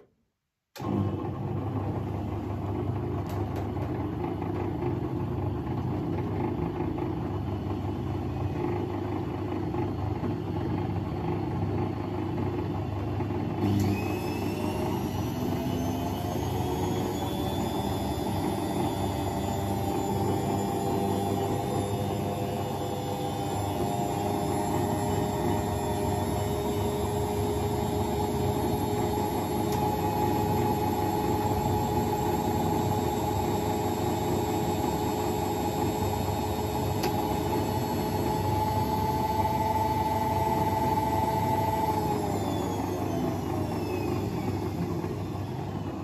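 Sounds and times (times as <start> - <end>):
washing machine spinning: 0.8 - 46.0.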